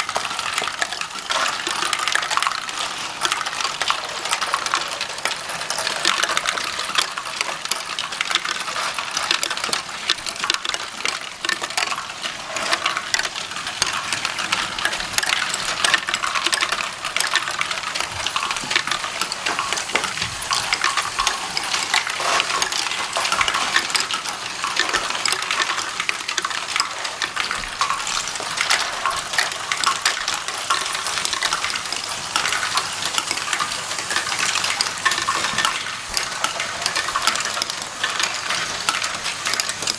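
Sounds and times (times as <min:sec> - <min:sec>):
plastic bricks clattering: 0:00.0 - 0:39.9.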